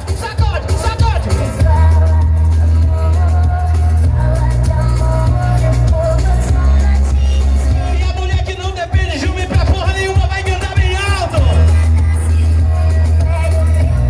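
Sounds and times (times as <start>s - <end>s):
steady drum beat: 0.0s - 14.0s
deep bass notes: 0.4s - 8.4s, 9.5s - 14.0s.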